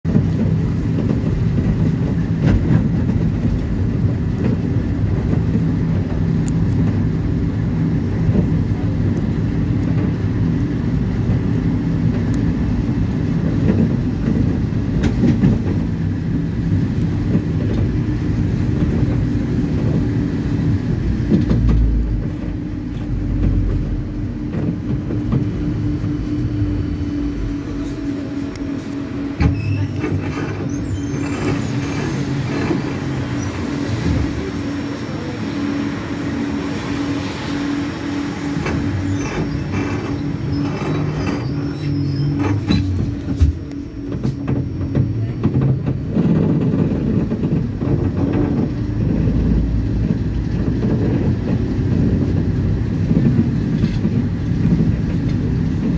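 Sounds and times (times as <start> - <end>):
tram wheels rumbling on rails: 0.0 - 55.9.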